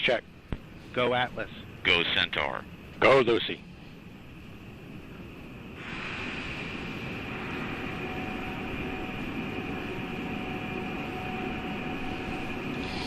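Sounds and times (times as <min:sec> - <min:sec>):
steady rushing rumble: 0:00.0 - 0:13.0
thin high whine: 0:00.8 - 0:13.0.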